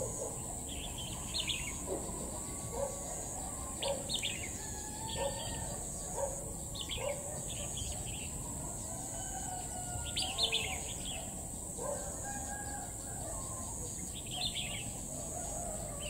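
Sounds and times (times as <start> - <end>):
bird chirping: 0.0 - 8.7, 10.0 - 12.1, 13.2 - 16.0.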